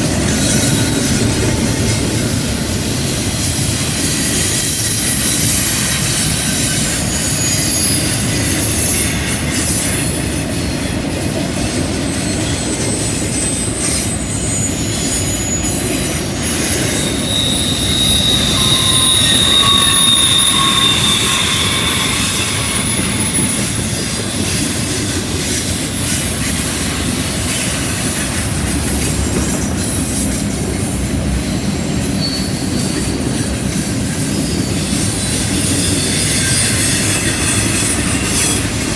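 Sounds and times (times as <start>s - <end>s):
train wheels rumbling on rail: 0.0s - 38.9s
high wheel squeal: 0.1s - 10.4s, 12.1s - 30.4s, 31.7s - 38.9s.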